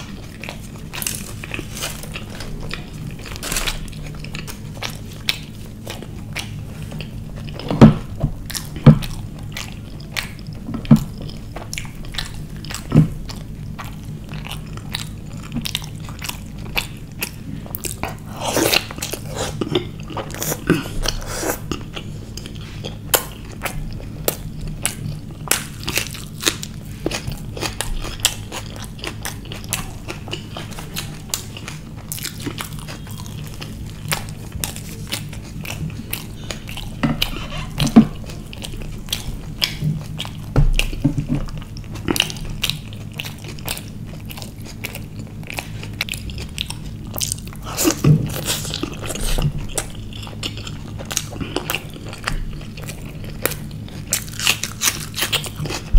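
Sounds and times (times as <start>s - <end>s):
person chewing food: 0.0s - 55.9s
steady low hum: 0.0s - 55.9s.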